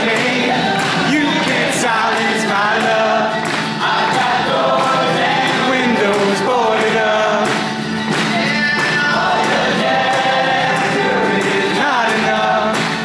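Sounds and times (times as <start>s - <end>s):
drum beats: 0.0s - 13.0s
men singing in harmony: 0.0s - 13.0s
strummed acoustic guitar: 0.0s - 13.0s.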